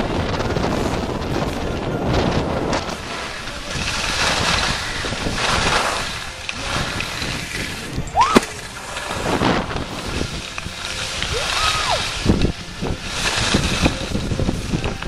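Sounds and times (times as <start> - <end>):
skis hissing over snow: 0.0 - 15.0
wind buffeting the microphone: 0.0 - 15.0.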